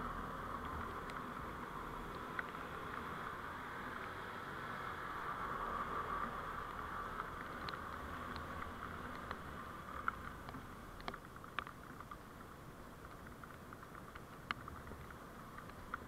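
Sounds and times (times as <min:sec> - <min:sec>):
small clicks and ticks: 0:00.0 - 0:16.0
vehicle road noise: 0:00.0 - 0:16.0.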